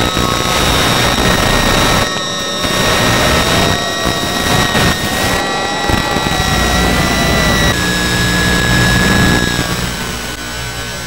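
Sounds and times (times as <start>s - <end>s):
radio hiss: 0.0s - 11.0s
small electric motor whining: 0.0s - 11.0s.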